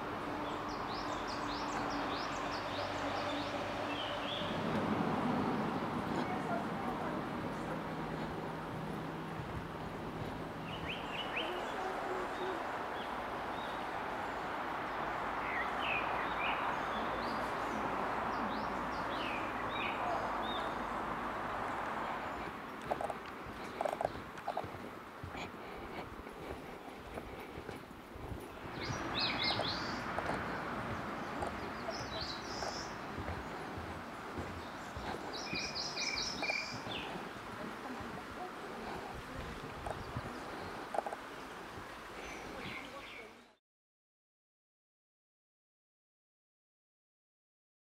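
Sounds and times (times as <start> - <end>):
outdoor background hiss: 0.0 - 43.5
birds chirping: 0.0 - 43.6
forest background noise: 0.0 - 43.6
songbird singing: 0.0 - 43.6.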